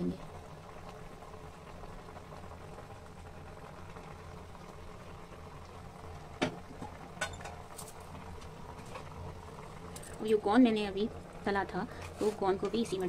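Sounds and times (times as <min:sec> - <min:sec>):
water bubbling in a pan: 0:00.0 - 0:13.0.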